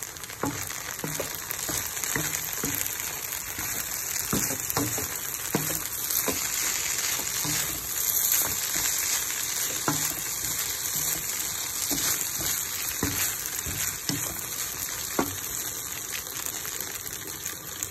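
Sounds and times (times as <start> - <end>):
noodles sizzling in a pan: 0.0 - 17.9
spatula knocking and scraping pan: 0.4 - 15.6.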